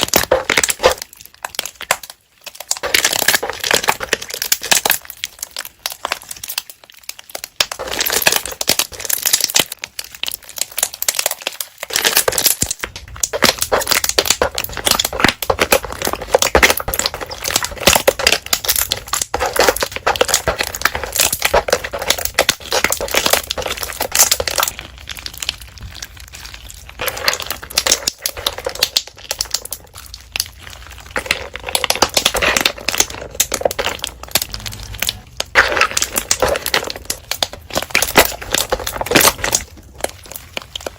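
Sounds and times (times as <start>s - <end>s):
slime squished by hand: 0.0s - 40.9s.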